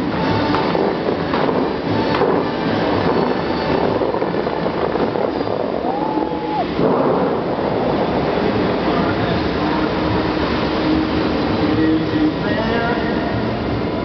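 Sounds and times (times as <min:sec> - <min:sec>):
fountain water rushing roar: 0:00.0 - 0:14.0.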